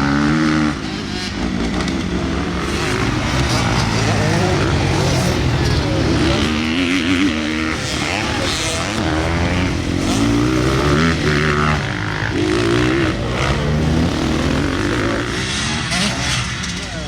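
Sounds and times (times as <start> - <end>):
motorbike engines revving: 0.0 - 17.0.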